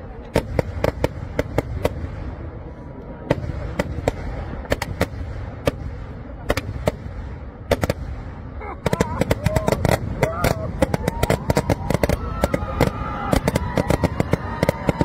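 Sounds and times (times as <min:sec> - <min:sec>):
firework bangs: 0:00.1 - 0:15.0.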